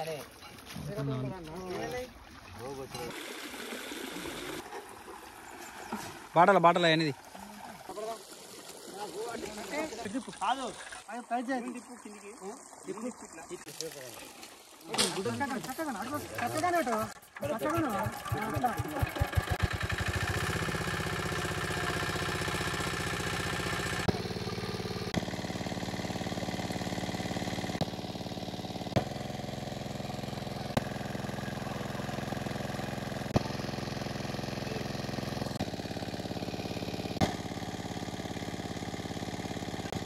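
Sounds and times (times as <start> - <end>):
engine water pump running: 0.0 - 40.0.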